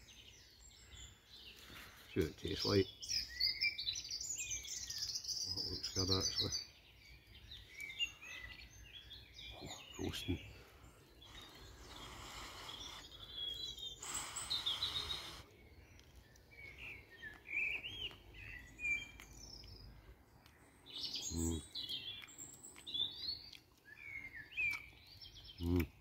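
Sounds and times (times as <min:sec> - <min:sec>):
woodland birds singing: 0:00.0 - 0:26.0.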